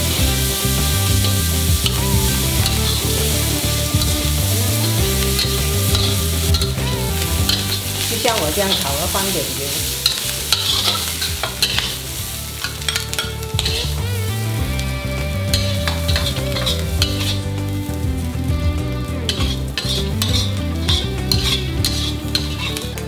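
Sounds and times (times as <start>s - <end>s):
food sizzling in oil: 0.0s - 23.0s
metal spatula scraping a wok: 0.0s - 23.0s.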